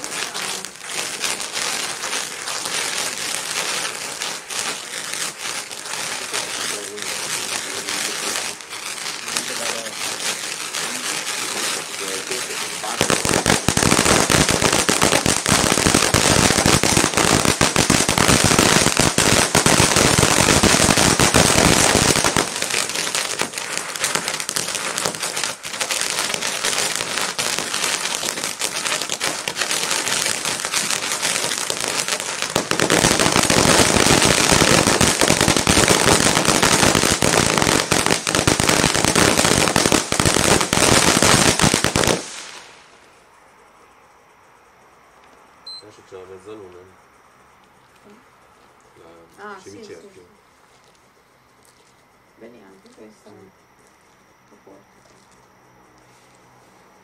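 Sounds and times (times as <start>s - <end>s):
fireworks fountain crackling: 0.0s - 43.2s, 45.6s - 47.1s, 47.7s - 57.0s.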